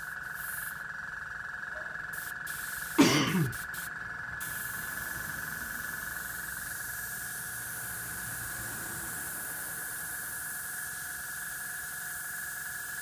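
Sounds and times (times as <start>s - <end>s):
airbrush air hissing: 0.0s - 0.8s, 2.1s - 13.0s
steady high-pitched hum: 0.0s - 13.0s.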